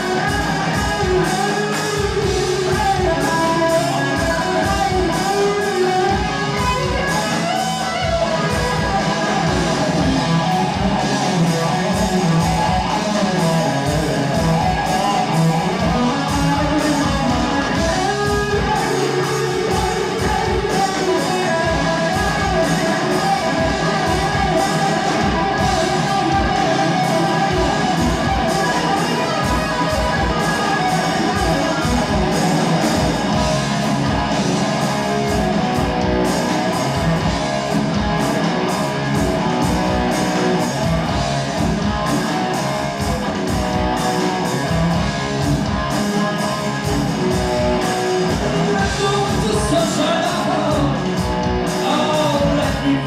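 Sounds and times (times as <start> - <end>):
bass guitar: 0.0 - 53.0
distorted electric guitar: 0.0 - 53.0
drum kit beat: 0.0 - 53.0.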